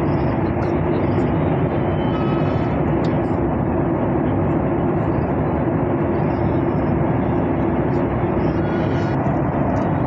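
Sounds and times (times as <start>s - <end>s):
airliner cabin drone: 0.0s - 10.0s
constant low hum: 0.0s - 10.0s.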